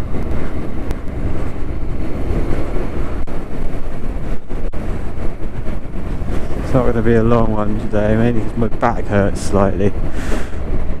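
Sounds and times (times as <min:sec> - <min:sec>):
motorcycle engine rumbling: 0:00.0 - 0:11.0
wind rushing over microphone: 0:00.0 - 0:11.0.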